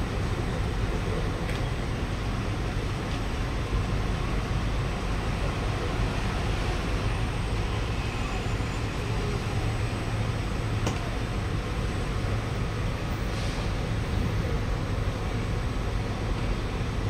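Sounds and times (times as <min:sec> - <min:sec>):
low hum inside train car: 0:00.0 - 0:17.0.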